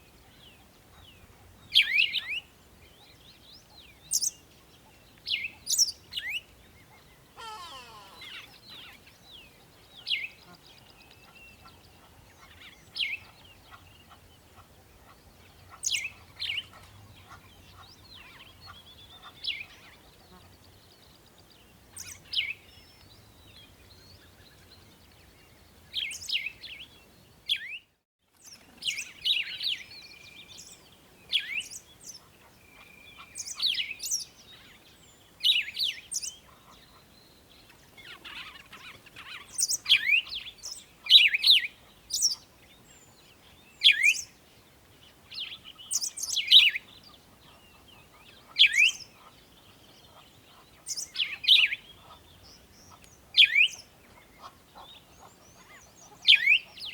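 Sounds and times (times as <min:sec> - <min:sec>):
small songbirds chirping: 0:00.0 - 0:56.9.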